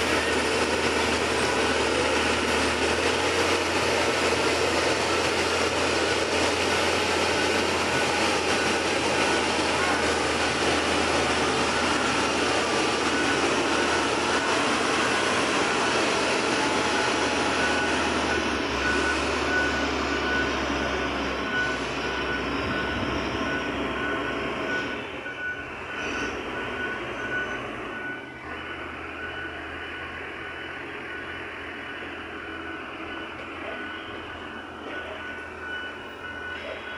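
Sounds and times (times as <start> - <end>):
diesel engine running: 0.0 - 36.9
backup alarm beeping: 5.0 - 36.9.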